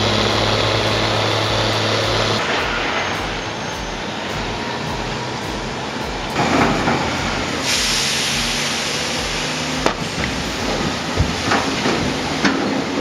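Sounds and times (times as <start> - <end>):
machinery running: 0.0 - 13.0
steam hissing: 0.0 - 13.0.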